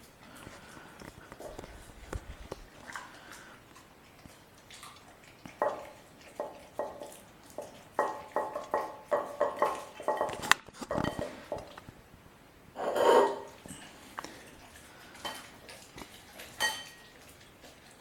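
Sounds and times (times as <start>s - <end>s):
puppy eating: 0.0s - 12.0s, 13.0s - 18.0s.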